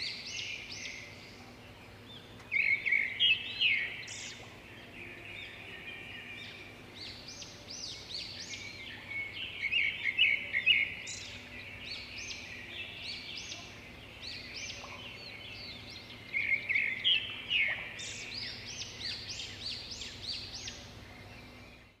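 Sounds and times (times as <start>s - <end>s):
birds chirping in chorus: 0.0s - 22.0s.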